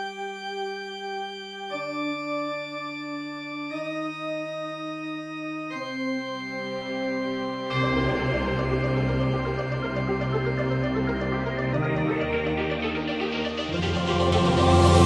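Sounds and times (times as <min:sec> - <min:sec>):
sustained organ chords: 0:00.2 - 0:15.0.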